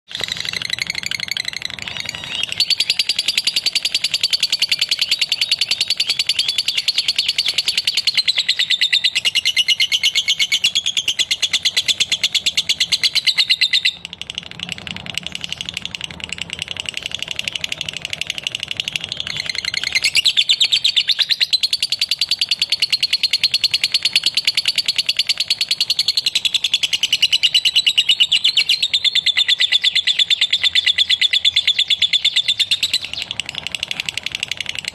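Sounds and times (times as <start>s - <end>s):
lovebird rapid chattering chirps: 0.1s - 34.9s.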